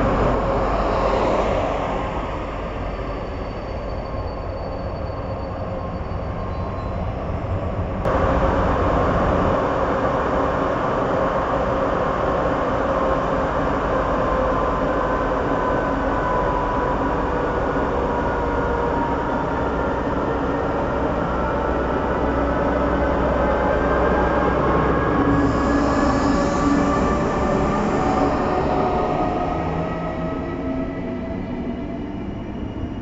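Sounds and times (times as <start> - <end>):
standing train rumble: 0.0 - 4.3, 7.1 - 33.0
rumble of train wheels: 0.0 - 33.0.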